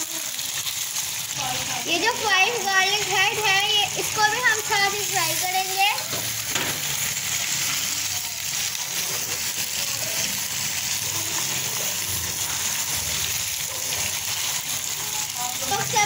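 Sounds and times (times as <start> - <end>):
chicken and garlic sizzling: 0.0 - 16.0.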